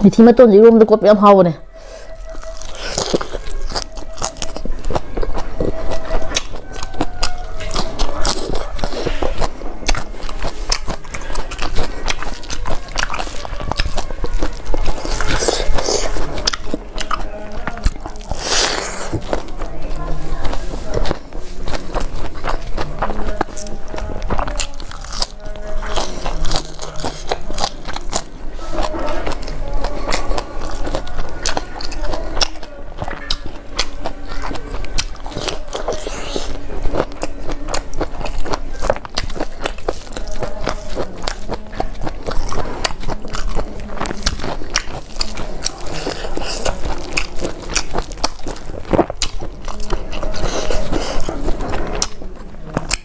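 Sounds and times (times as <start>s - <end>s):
wet chewing and lip smacking: 1.7s - 53.0s.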